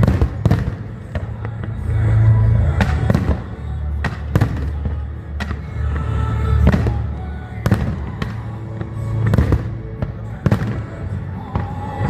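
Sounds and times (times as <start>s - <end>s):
low rumble of explosions: 0.0s - 12.0s.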